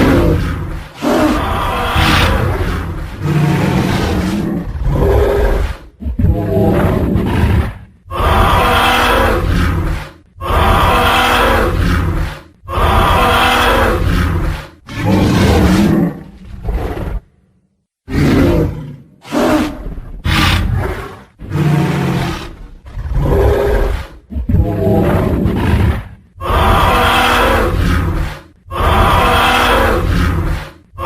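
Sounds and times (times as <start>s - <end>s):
deep dinosaur roars: 0.0s - 17.3s, 18.1s - 31.0s.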